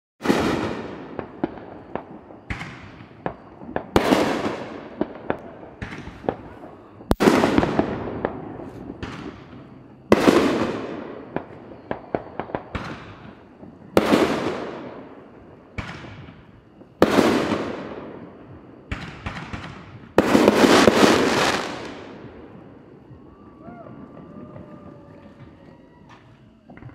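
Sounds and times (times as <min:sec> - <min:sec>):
firework pops and crackles: 0:00.2 - 0:14.9, 0:15.7 - 0:26.9
fireworks bangs with rumble: 0:00.2 - 0:26.9.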